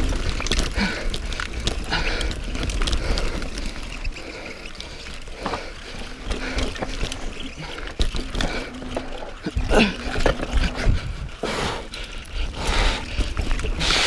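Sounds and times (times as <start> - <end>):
bike knocking and rattling over rocks: 0.0 - 14.0.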